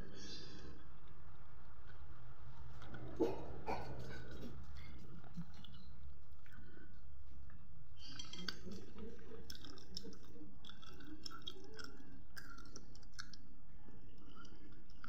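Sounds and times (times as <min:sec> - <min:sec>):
chewing crispy fritter: 0:02.7 - 0:15.0.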